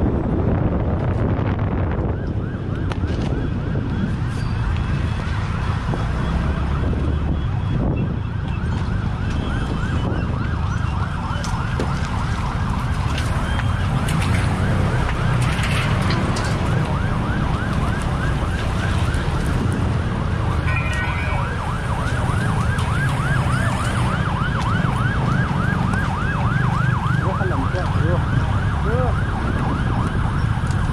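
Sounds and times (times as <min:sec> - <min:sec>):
siren yelping: 0:01.7 - 0:30.9.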